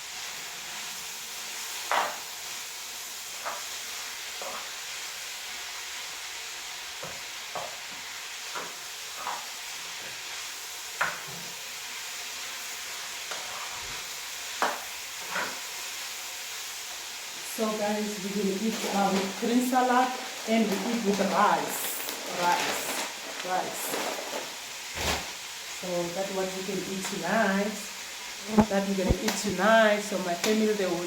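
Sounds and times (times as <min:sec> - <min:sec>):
stew sizzling in a pot: 0:00.0 - 0:31.0.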